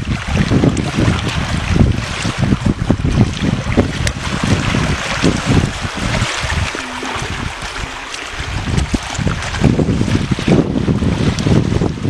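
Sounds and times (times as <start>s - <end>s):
water rushing through spillway: 0.0s - 12.0s
wind buffeting microphone: 0.0s - 12.0s.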